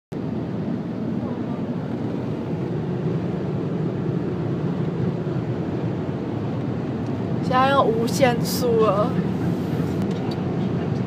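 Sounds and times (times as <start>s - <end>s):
car engine: 0.1s - 11.0s
road noise: 0.1s - 11.0s.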